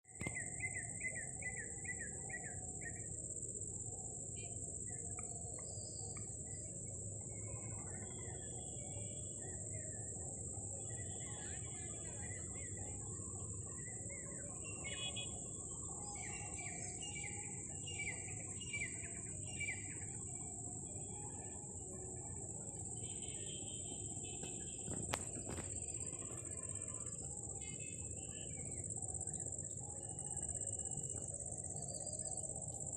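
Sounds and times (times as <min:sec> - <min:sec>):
high-pitched insect drone: 0:00.2 - 0:32.9.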